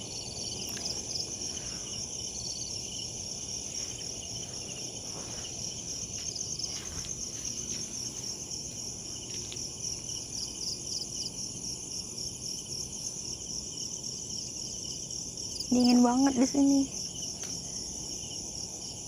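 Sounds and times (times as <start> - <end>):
night insects trilling: 0.0 - 19.0.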